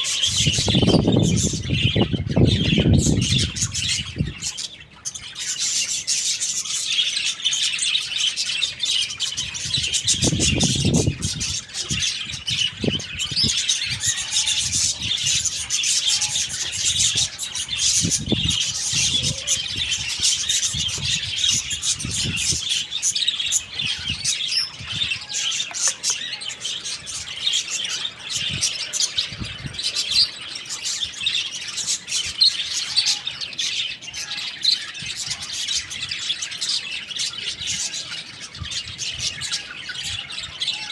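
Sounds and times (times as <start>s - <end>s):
many birds chirping: 0.0s - 40.9s.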